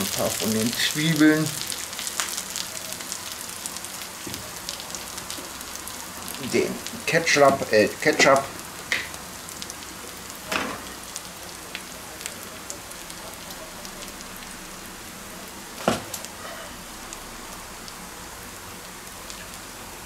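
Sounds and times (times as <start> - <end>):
hot fat sizzling in a pan: 0.0 - 20.0.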